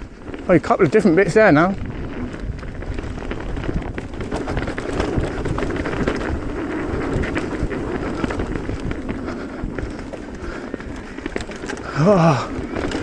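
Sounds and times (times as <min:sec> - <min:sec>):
bike knocks and rattles: 0:00.0 - 0:13.0
tyres rolling over rough ground: 0:00.0 - 0:13.0
wind noise on microphone: 0:00.0 - 0:13.0.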